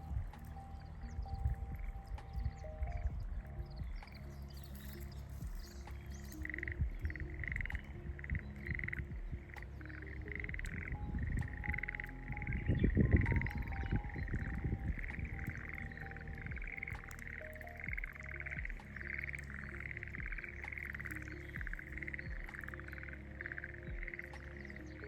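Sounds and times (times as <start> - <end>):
low rumbling noise: 0.0 - 25.0
tree frogs trilling: 0.0 - 25.0.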